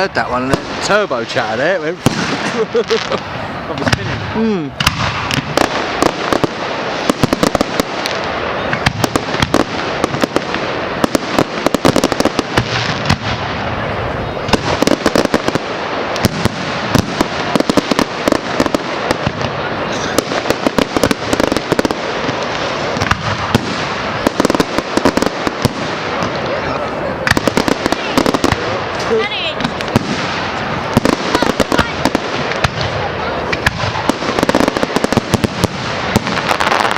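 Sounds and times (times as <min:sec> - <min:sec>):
fireworks banging and crackling: 0:00.0 - 0:36.9.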